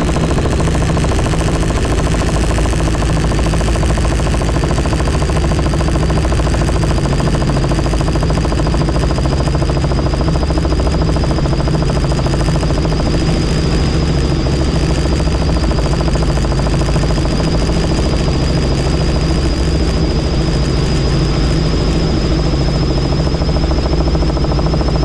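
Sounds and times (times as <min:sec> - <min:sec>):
helicopter rotor beat: 0:00.0 - 0:25.0
high whine: 0:00.0 - 0:25.0.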